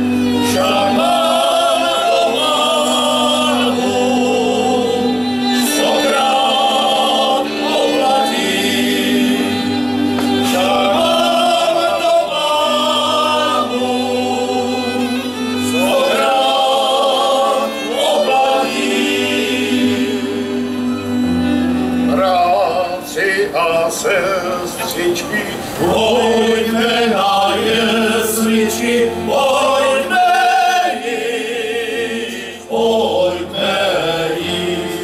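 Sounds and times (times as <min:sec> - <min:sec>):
men's choir singing in harmony: 0:00.0 - 0:35.0.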